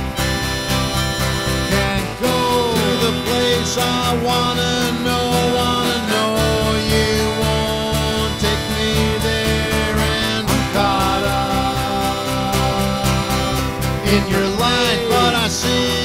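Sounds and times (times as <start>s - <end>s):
bending lead guitar line: 0.0s - 16.0s
country-rock instrumental: 0.0s - 16.0s.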